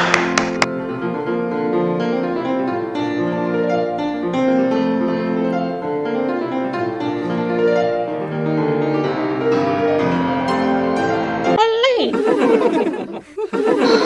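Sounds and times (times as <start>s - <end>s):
classical piano music: 0.0s - 11.6s.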